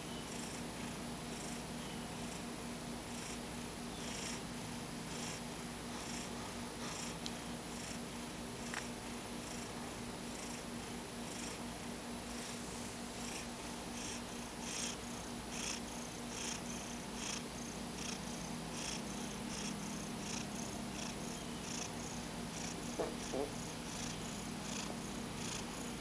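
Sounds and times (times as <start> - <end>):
cat snoring: 0.2 - 0.7, 2.2 - 26.0.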